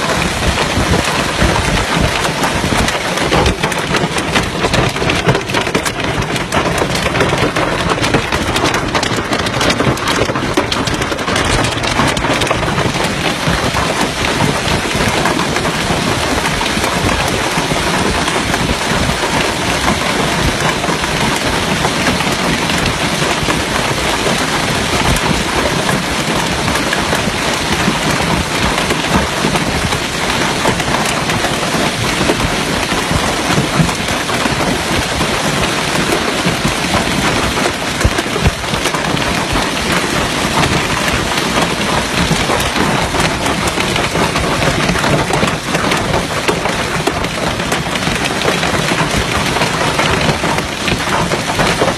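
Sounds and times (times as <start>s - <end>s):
hailstones pelting the ground: 0.0s - 51.9s.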